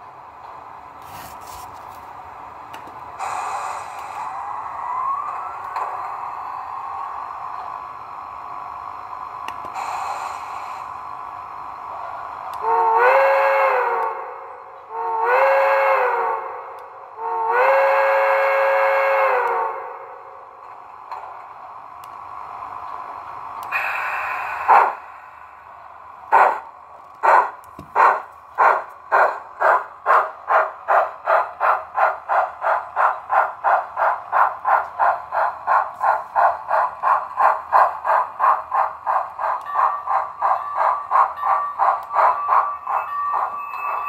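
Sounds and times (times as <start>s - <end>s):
steam locomotive exhaust chuffs: 0.0s - 44.0s
steam hissing: 0.6s - 44.0s.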